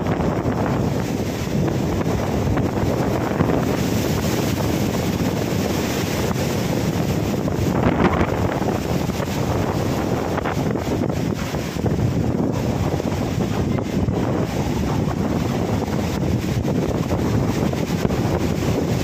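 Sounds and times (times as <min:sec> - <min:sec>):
surf breaking over rocks: 0:00.0 - 0:19.0
wind buffeting microphone: 0:00.0 - 0:19.0.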